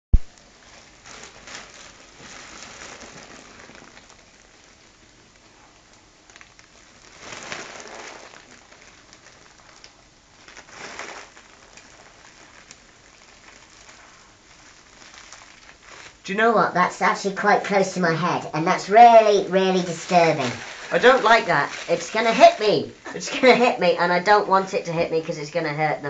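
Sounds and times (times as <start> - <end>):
foil balloon crinkling: 0.3 - 26.0.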